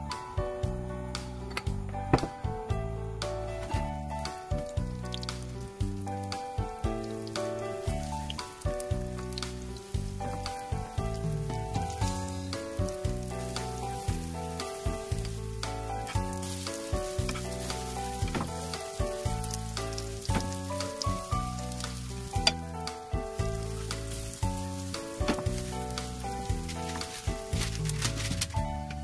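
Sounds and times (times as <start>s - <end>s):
instrumental background music: 0.0s - 29.0s
pancakes sizzling in oil: 4.2s - 28.4s.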